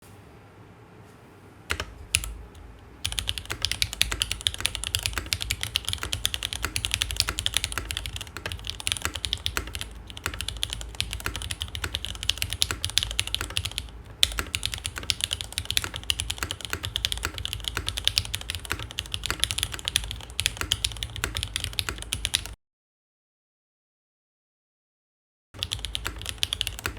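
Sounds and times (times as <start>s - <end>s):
mechanical keyboard typing: 1.7s - 22.6s, 25.6s - 26.9s.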